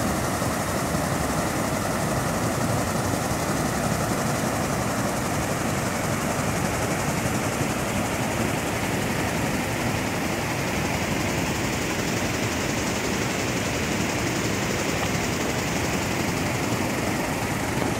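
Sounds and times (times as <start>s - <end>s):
fountain water rushing into pool: 0.0s - 17.9s.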